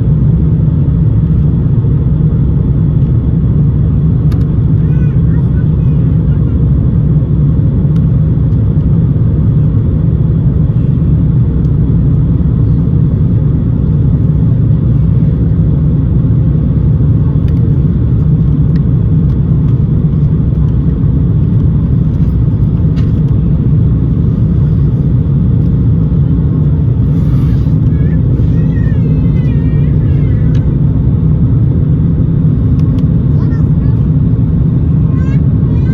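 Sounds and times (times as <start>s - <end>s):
airplane cabin engine noise: 0.0s - 35.9s.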